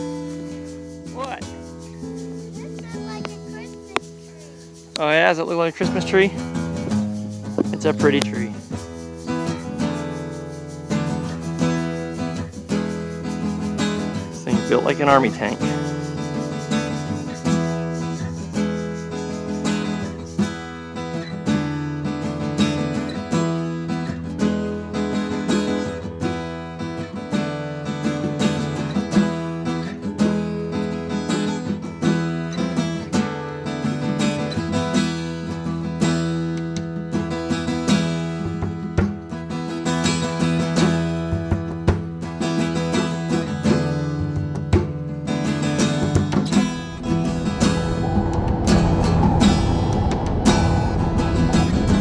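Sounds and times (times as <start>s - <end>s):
acoustic guitar music: 0.0s - 46.8s.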